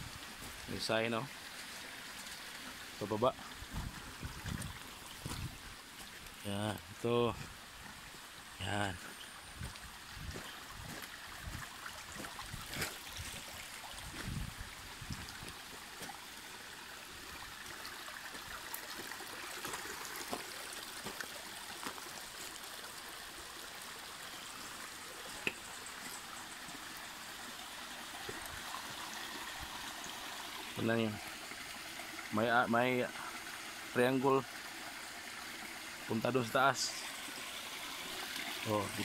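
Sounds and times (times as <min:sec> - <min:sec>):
creek flowing over rocks: 0:00.0 - 0:39.0.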